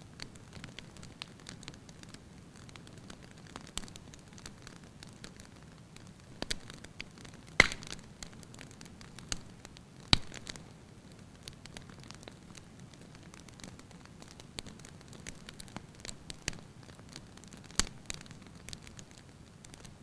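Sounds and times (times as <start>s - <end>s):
wood fire crackling: 0.0s - 20.0s
fire pops: 0.2s - 10.6s, 11.4s - 20.0s.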